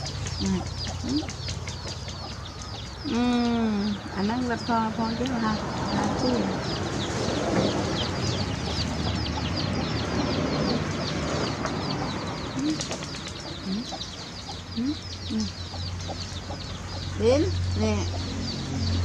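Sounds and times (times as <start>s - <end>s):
chickens clucking: 0.0s - 18.4s
chicks peeping: 0.0s - 19.0s.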